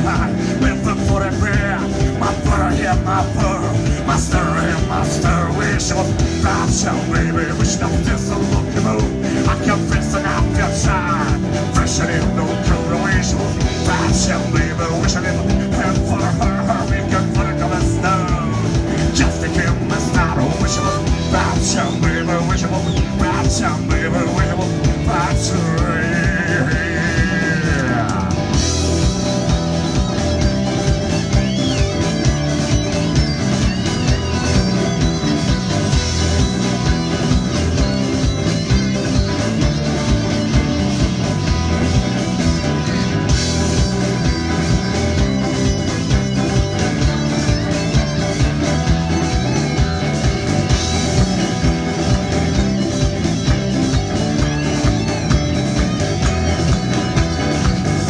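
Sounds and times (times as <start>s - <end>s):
electric guitar: 0.0s - 58.0s
live band playing: 0.0s - 58.0s.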